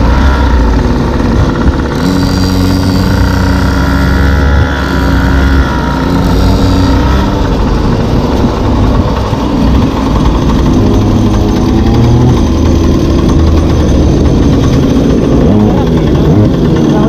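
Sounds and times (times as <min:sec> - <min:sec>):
two-stroke scooter engine droning: 0:00.0 - 0:17.0.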